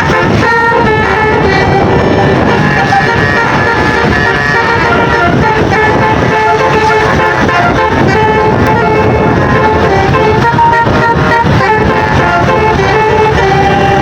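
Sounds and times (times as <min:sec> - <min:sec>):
bus horn playing a tune: 0:00.0 - 0:14.0.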